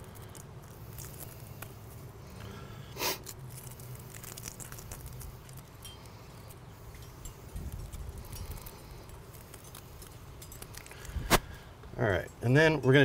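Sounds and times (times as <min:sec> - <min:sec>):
garlic skins crackling: 0:00.0 - 0:13.0
low steady hum: 0:00.0 - 0:13.0.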